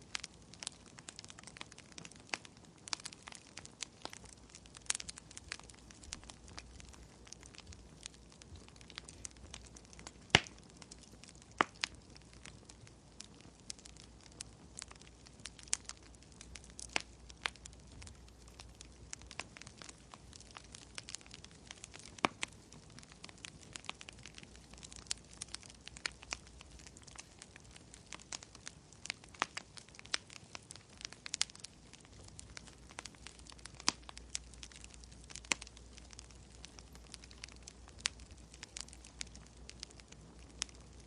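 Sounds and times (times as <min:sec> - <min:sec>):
faint low hum: 0:00.0 - 0:41.0
wood fire crackling: 0:00.0 - 0:41.0.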